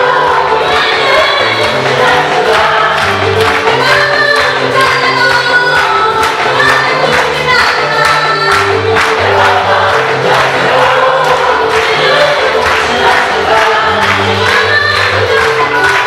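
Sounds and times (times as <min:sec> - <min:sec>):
bass line: 0:00.0 - 0:16.0
choir singing gospel: 0:00.0 - 0:16.0.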